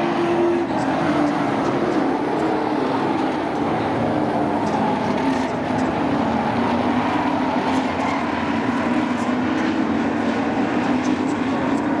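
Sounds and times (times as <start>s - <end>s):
race truck engines: 0.0s - 12.0s.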